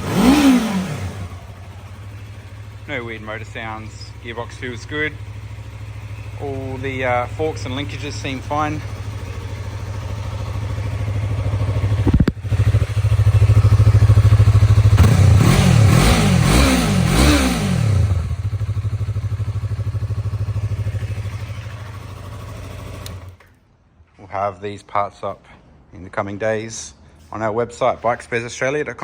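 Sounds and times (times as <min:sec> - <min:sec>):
motorcycle engine idling and revving: 0:00.0 - 0:23.5.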